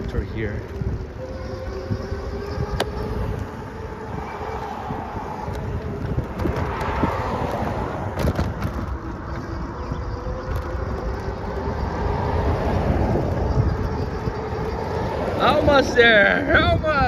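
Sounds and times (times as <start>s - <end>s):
street traffic: 0.0s - 17.0s
wind rumbling on microphone: 0.0s - 17.0s.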